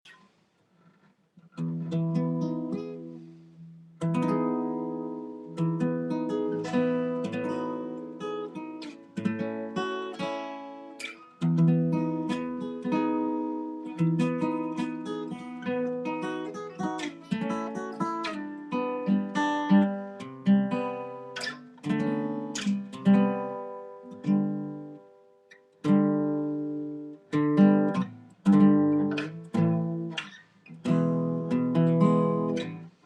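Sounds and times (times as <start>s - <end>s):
acoustic guitar chords: 1.5s - 33.0s.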